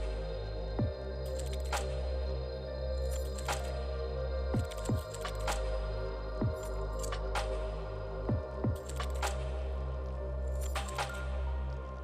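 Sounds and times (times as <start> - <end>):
calm ambient music: 0.0 - 12.0.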